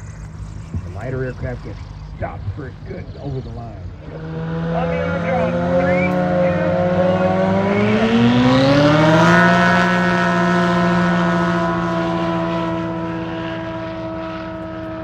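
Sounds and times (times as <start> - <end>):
propeller planes taking off: 0.0 - 15.0.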